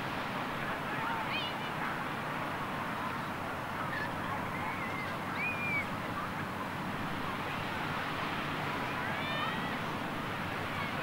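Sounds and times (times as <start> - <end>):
sea waves: 0.0 - 11.0
wind: 0.0 - 11.0.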